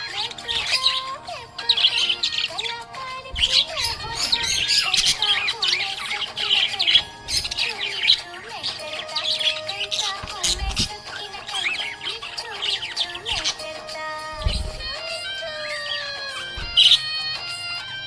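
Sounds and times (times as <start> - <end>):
budgerigars chattering and chirping: 0.0 - 17.8
background music: 0.0 - 18.0.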